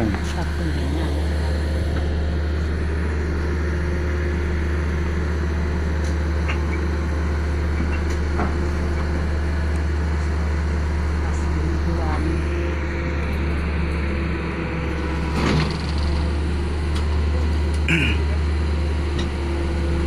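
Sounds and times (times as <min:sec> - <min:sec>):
low engine drone with hum: 0:00.0 - 0:20.0.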